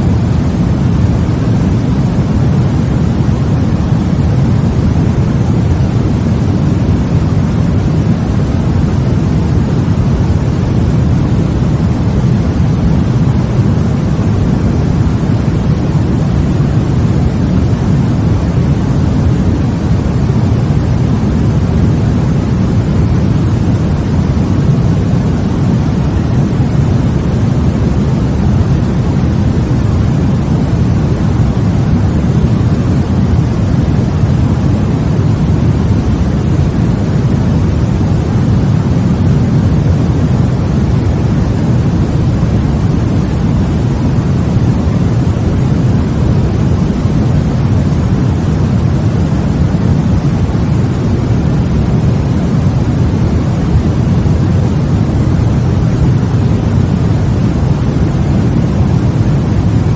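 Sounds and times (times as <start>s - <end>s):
deep white noise rumble: 0.0s - 59.9s.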